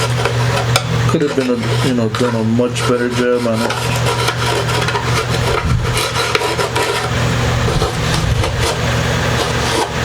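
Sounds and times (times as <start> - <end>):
scraping wood: 0.0 - 10.0
steady low hum: 0.0 - 10.0.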